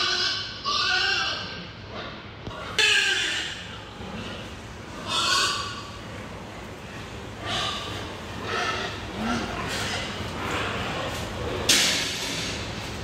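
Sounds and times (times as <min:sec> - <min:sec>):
pigs calling: 0:00.0 - 0:12.8.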